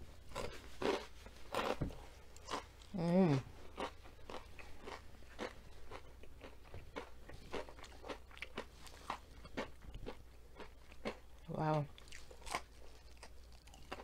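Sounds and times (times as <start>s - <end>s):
person chewing crunchy food: 0.2s - 14.0s.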